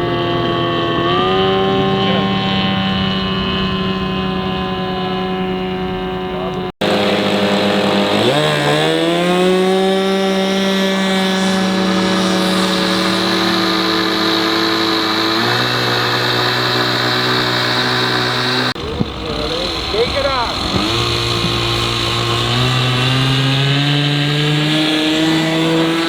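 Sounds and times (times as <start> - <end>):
model airplane engine revving: 0.0 - 26.0.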